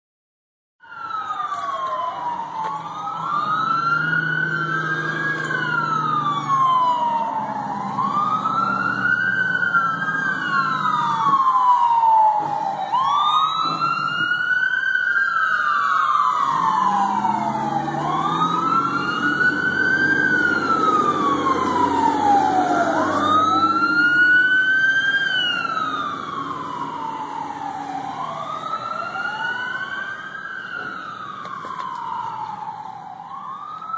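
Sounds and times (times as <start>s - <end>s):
emergency sirens wailing: 0.8s - 33.9s.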